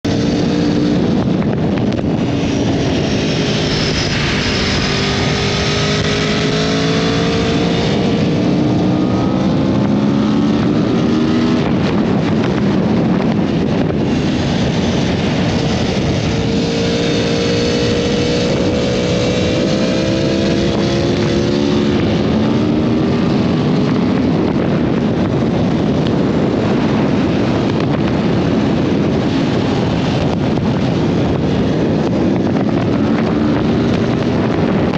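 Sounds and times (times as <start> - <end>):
motorcycle engine revving: 0.0 - 34.9
wind rush on microphone: 0.0 - 34.9.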